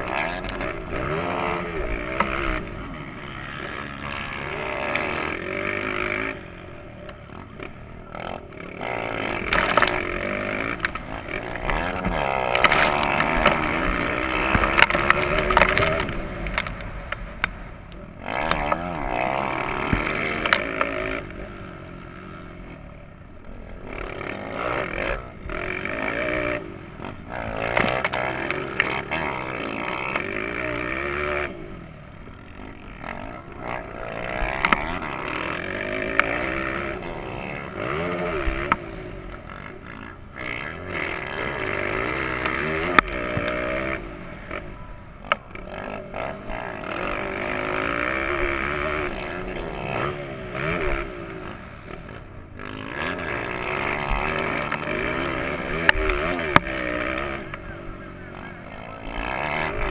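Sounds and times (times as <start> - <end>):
motocross bike engine accelerating: 0.0 - 59.9.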